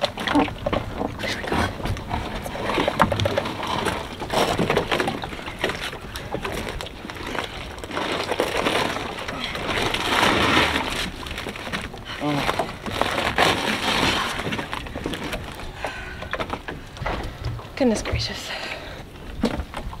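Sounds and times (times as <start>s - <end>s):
rope and rubber tube rustling: 1.1s - 17.3s.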